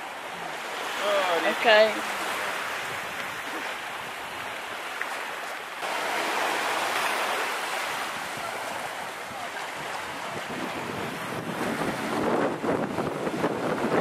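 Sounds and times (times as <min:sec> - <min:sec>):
sea waves washing on sand: 0:00.0 - 0:14.0.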